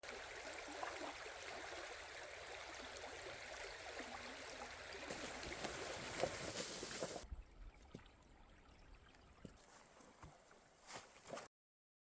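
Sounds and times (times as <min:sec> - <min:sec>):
faint flowing water: 0:00.0 - 0:11.5.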